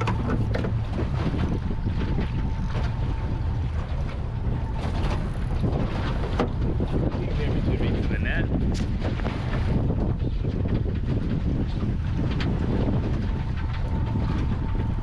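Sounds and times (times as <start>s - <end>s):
outboard motor running: 0.0s - 15.0s
water washing along hull: 0.0s - 15.0s
wind buffeting microphone: 0.0s - 15.0s.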